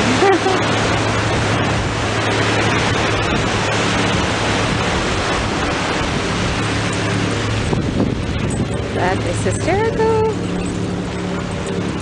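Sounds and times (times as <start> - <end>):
ocean surf rushing: 0.0 - 12.0.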